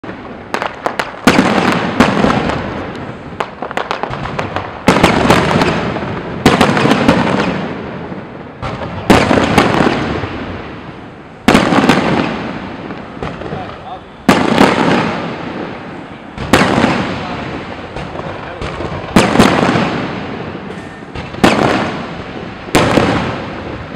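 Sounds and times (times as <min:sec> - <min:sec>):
fireworks booming: 0:00.0 - 0:23.9
fireworks popping and crackling: 0:00.0 - 0:23.9.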